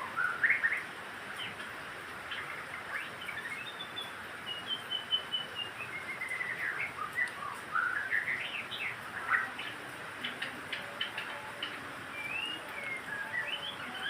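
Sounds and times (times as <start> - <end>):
bird singing whistled notes: 0.0 - 0.9, 2.3 - 14.0.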